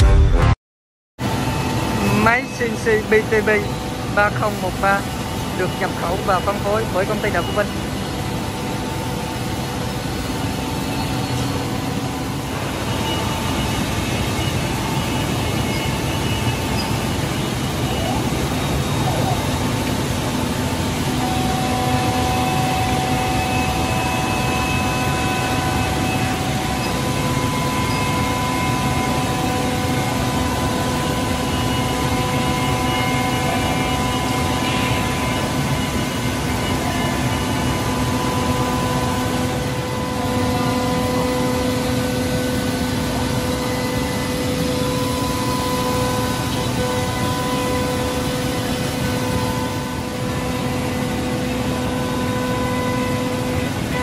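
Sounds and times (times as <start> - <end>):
cnc machine machining wood: 1.2 - 54.0.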